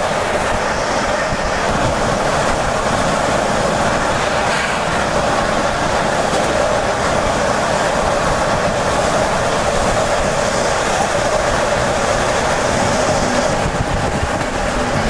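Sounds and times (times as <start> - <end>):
train wheels rolling on rail: 0.0 - 15.0.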